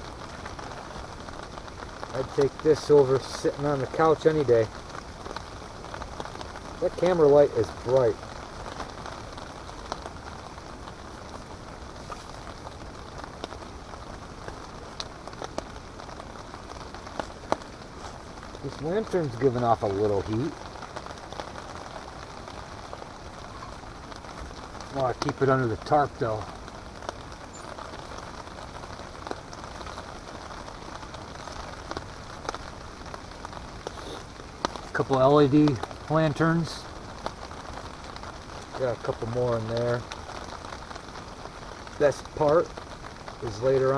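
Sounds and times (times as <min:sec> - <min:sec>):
drops tapping on a tarp: 0:00.0 - 0:43.9
rain hissing on a tarp: 0:00.0 - 0:43.9.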